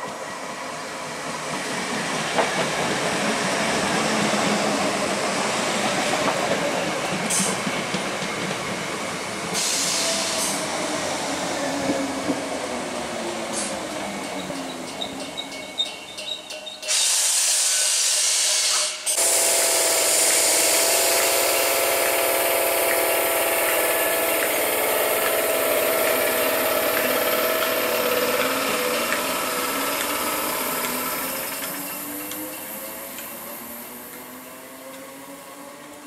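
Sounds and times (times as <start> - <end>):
electric train whine: 0.0 - 36.0
rail and air hiss: 0.0 - 36.0.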